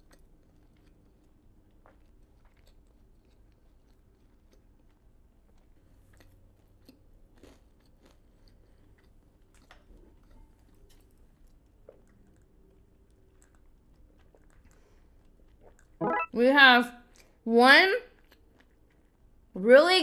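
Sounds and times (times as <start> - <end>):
chewing crunchy fried chicken: 0.0 - 16.2, 18.1 - 19.5.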